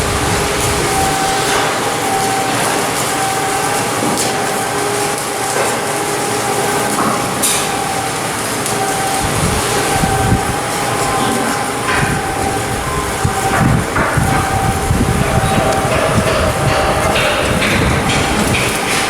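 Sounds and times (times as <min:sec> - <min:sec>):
machinery din with whine: 0:00.0 - 0:19.0.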